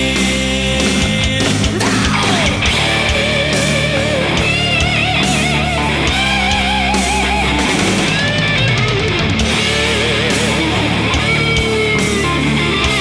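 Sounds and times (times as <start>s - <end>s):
rock music with drums and guitar: 0.0s - 13.0s
wavering guitar lead line: 0.0s - 13.0s.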